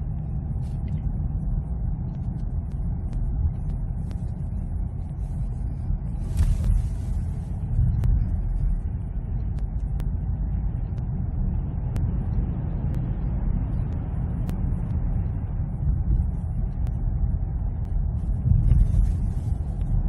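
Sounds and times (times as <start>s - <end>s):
car cabin road and engine rumble: 0.0s - 20.0s.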